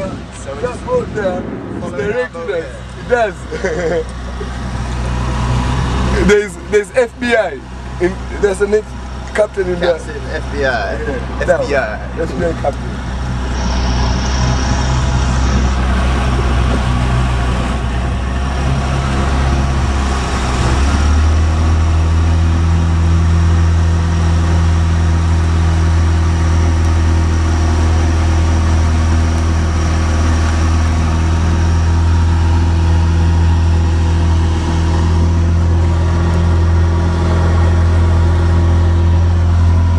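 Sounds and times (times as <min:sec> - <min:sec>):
rush of noise: 0:00.0 - 0:09.2, 0:10.0 - 0:39.9
motorboat engine running: 0:00.0 - 0:39.9.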